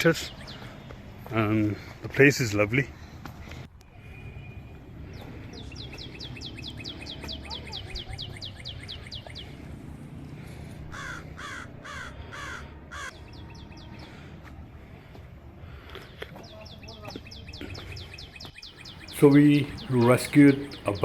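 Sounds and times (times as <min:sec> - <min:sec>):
harsh bird calls: 0:00.0 - 0:03.1, 0:04.0 - 0:15.1, 0:15.7 - 0:21.0.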